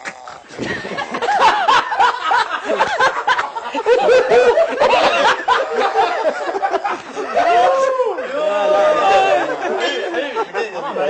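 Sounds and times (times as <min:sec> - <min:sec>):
men laughing loudly: 0:00.4 - 0:11.0.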